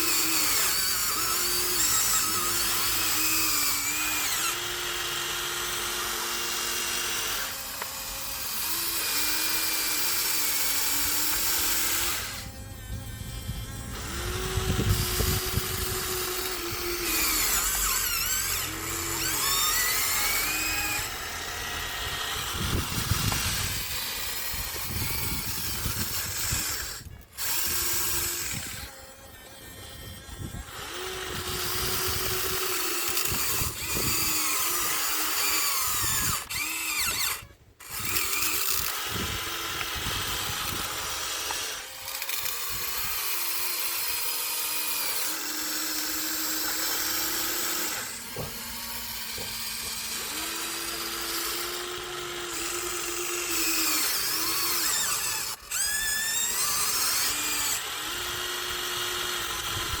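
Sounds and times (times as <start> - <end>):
electric motors and gears whining: 0.0 - 60.0.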